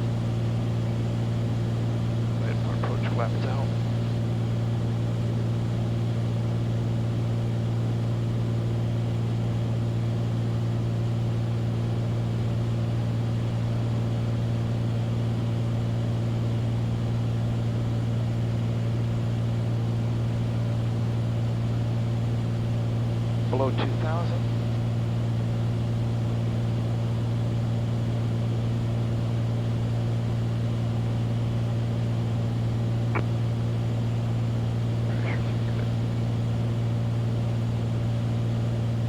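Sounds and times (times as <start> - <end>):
propeller plane engine drone: 0.0 - 39.0.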